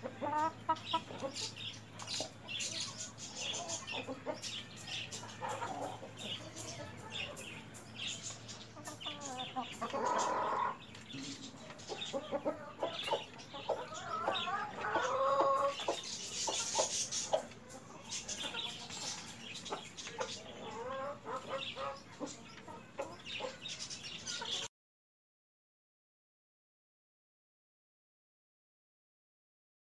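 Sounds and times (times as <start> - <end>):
chickens clucking and calling: 0.0 - 24.7.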